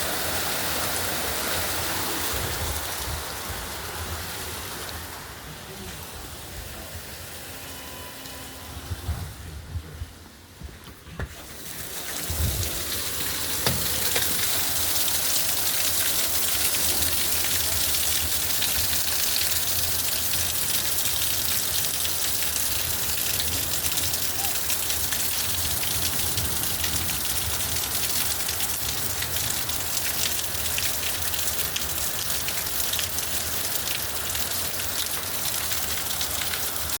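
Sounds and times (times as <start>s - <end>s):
rain falling: 0.0s - 7.4s, 11.2s - 37.0s.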